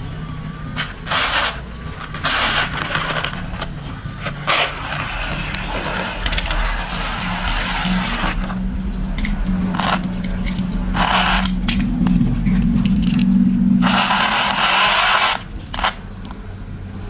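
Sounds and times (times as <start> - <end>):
toy train motor whirring: 0.0 - 8.6, 9.2 - 16.4
plastic scraping and rattling: 0.7 - 16.4.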